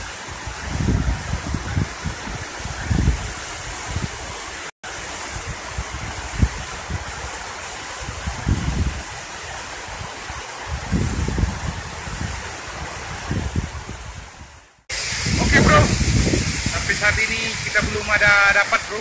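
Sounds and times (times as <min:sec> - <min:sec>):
waterfall and stream rushing: 0:00.0 - 0:19.0.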